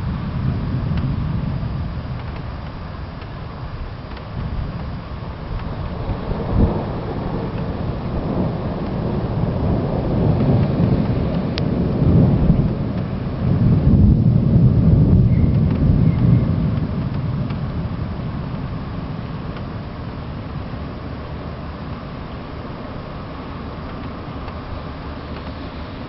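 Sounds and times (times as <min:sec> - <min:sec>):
thunder crack: 0:00.0 - 0:22.2
steady rain: 0:00.0 - 0:26.0
thunder rumbling: 0:00.0 - 0:26.0.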